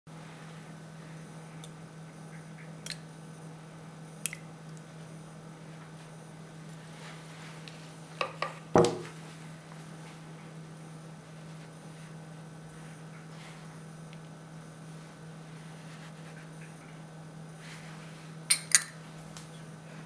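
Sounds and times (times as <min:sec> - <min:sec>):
steady low hum: 0:00.1 - 0:20.0.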